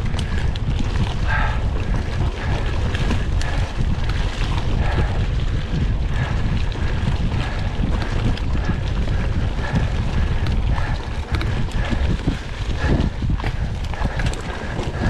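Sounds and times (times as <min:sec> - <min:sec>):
bike knocking and rattling: 0:00.0 - 0:15.0
wind buffeting microphone: 0:00.0 - 0:15.0.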